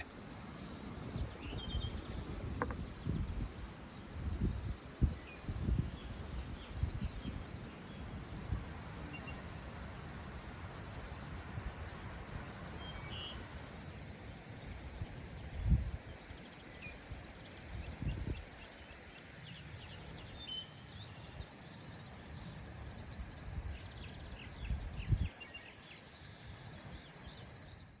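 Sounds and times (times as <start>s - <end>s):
faint outdoor rural ambience: 0.0s - 28.0s
small birds chirping: 0.0s - 28.0s.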